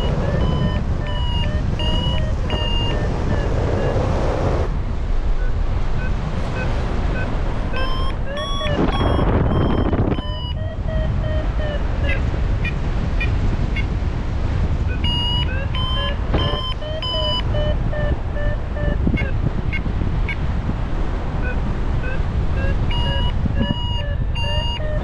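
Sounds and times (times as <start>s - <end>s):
variometer beeping: 0.0s - 4.4s, 5.2s - 13.9s, 14.7s - 20.5s, 21.3s - 25.0s
wind rumble on microphone: 0.0s - 25.0s.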